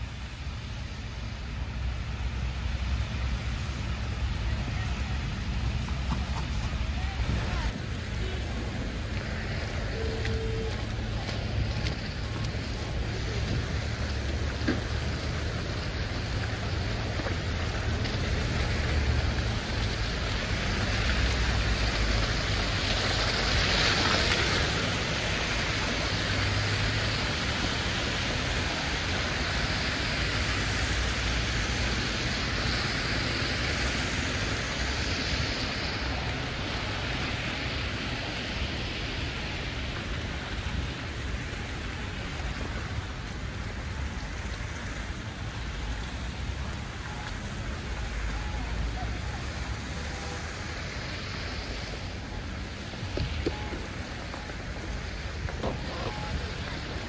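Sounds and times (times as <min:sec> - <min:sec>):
tyres hissing on wet road: 0:00.0 - 0:57.0.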